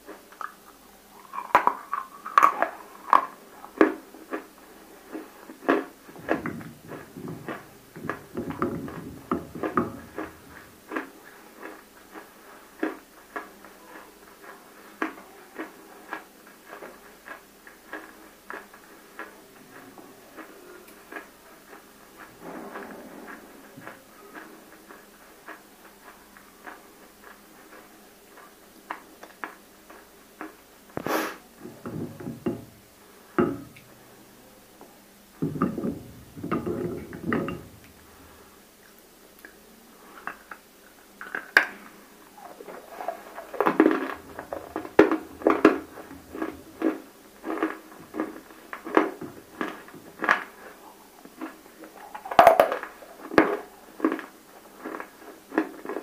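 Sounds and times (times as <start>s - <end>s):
crunching and chewing clay: 0.0s - 31.0s, 35.6s - 56.0s.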